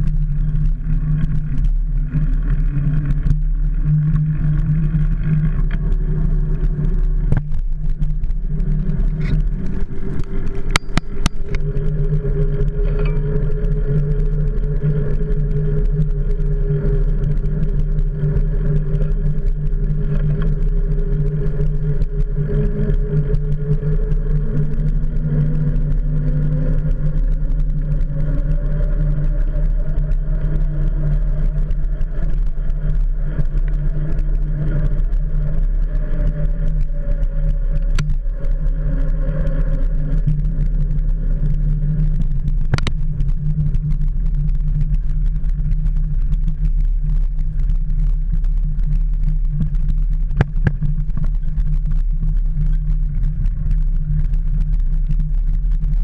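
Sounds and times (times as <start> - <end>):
faint engine drone: 0.0 - 56.0
wind and road rumble: 0.0 - 56.0.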